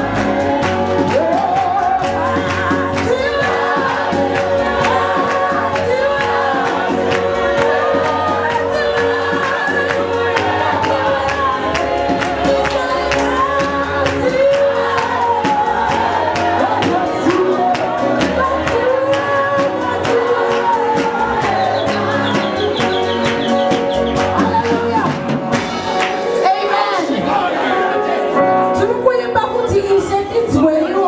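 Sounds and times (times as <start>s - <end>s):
gospel singing over a beat: 0.0s - 31.0s
hand-clapping: 0.1s - 26.2s.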